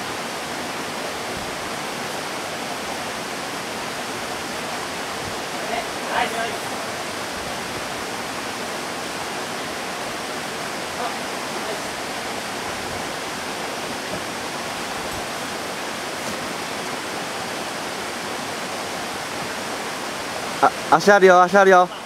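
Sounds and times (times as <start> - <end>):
flowing water: 0.0 - 22.0.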